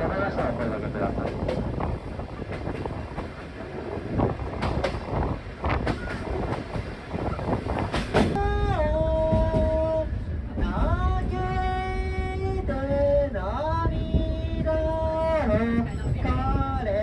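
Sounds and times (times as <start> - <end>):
train running on rails: 0.0 - 17.0.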